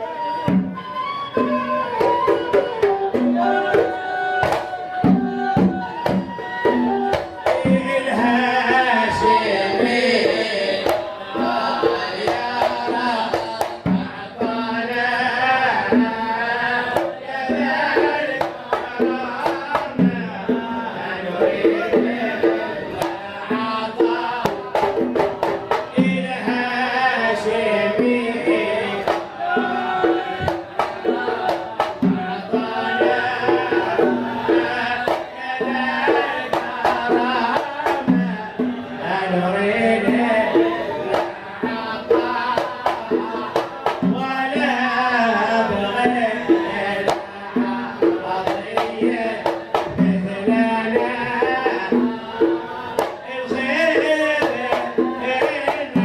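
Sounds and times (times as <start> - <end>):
hand drum beats: 0.0 - 56.0.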